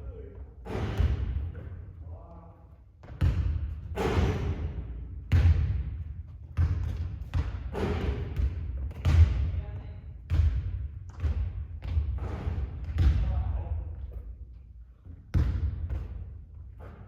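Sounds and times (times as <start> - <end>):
basketball bouncing on hard court: 0.6 - 1.8, 3.0 - 14.2, 15.1 - 17.0.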